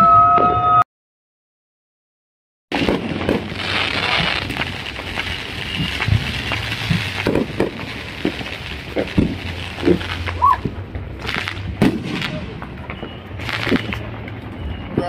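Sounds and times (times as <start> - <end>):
fireworks crackling and popping: 2.7 - 15.0.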